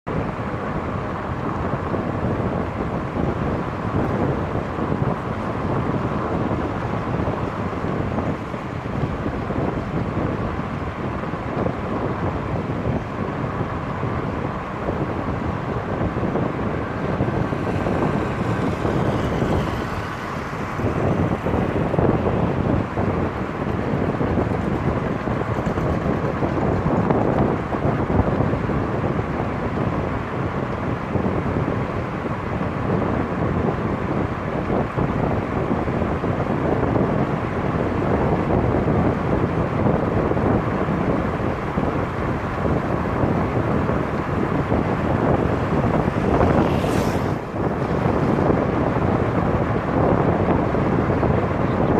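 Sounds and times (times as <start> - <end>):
road and tyre noise: 0.0 - 51.9
wind buffeting microphone: 0.0 - 51.9.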